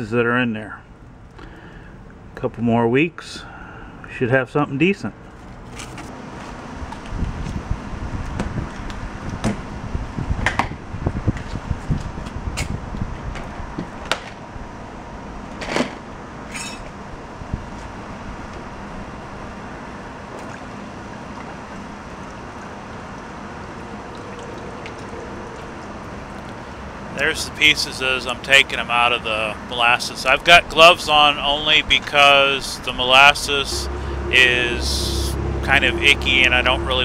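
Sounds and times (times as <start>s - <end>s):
background hum: 0.0s - 37.0s.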